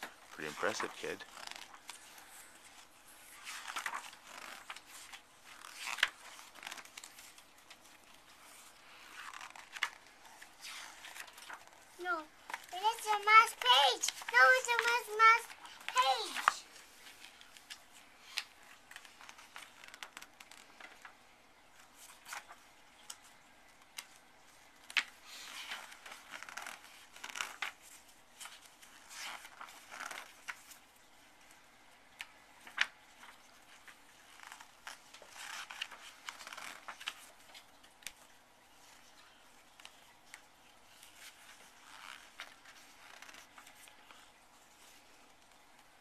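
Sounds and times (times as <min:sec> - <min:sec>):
book pages turning: 0:00.0 - 0:46.0.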